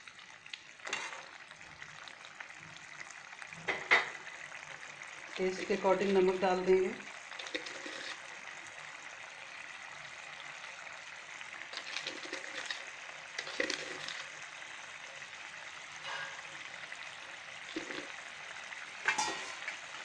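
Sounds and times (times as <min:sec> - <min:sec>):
curry bubbling in a pan: 0:00.0 - 0:20.0.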